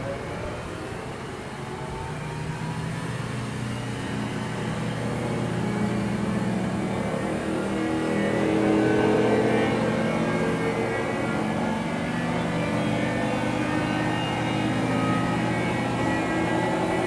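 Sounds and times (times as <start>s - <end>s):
tornado siren wailing: 0.0s - 17.0s.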